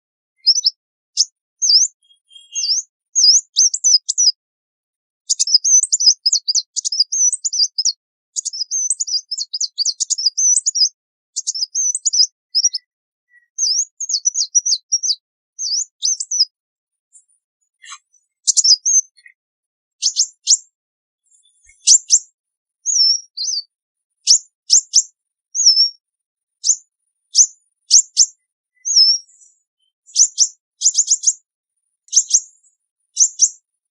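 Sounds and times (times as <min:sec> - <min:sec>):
bird twittering chirps: 0:00.4 - 0:04.4, 0:05.2 - 0:19.4, 0:20.0 - 0:26.0, 0:26.6 - 0:31.4, 0:32.0 - 0:33.6.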